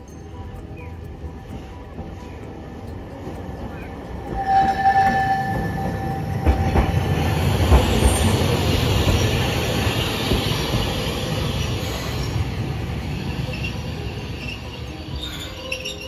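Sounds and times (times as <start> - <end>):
tram running rumble: 0.0 - 16.0
tram wheel squeal: 0.0 - 16.0.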